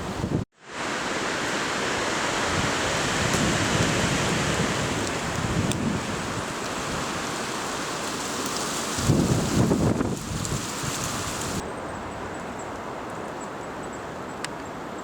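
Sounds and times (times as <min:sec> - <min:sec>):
wind blowing through trees: 0:00.0 - 0:15.0.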